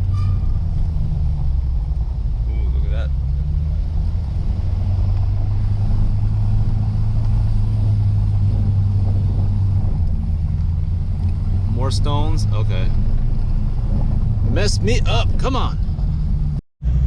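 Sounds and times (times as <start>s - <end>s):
car engine low drone: 0.0s - 17.0s
tyre road rumble: 0.0s - 17.0s.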